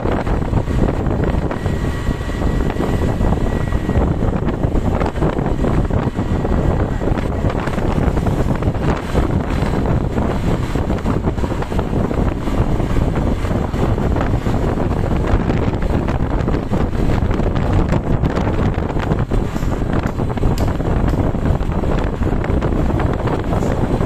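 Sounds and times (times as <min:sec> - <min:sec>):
road and engine noise: 0:00.0 - 0:24.0
wind buffeting microphone: 0:00.0 - 0:24.0.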